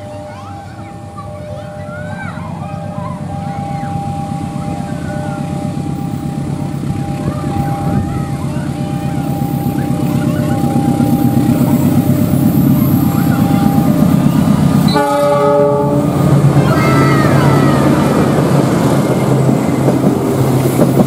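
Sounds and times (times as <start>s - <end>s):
thin high tone: 0.0s - 18.2s
locomotive engine rumbling: 0.0s - 21.0s.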